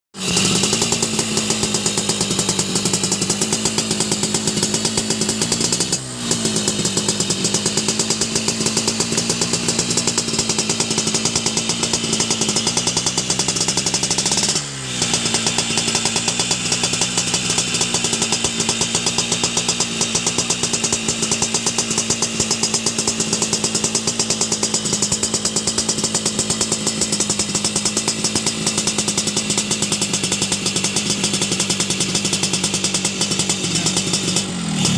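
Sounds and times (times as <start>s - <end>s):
two-stroke motorcycle engine running: 0.1s - 34.9s.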